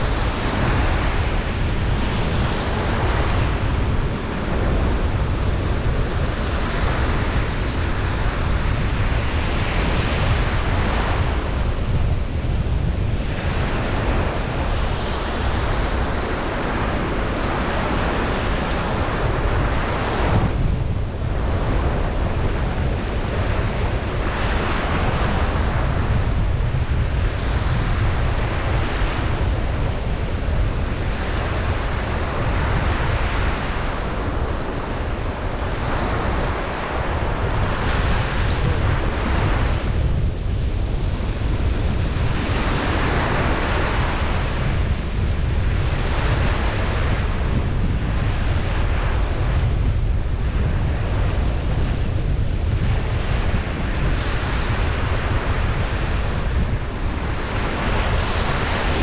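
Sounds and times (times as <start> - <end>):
ocean waves washing in: 0.0 - 59.0
wind on microphone: 0.0 - 59.0.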